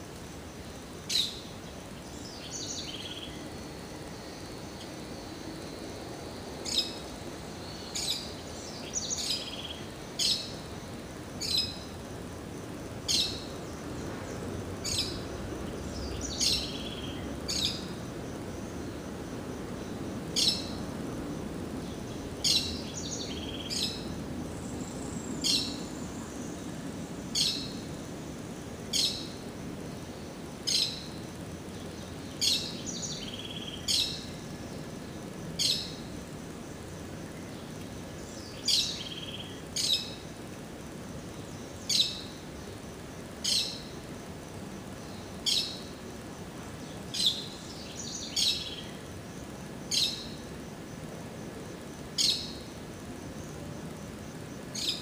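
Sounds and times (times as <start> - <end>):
low background rush: 0.0 - 55.0.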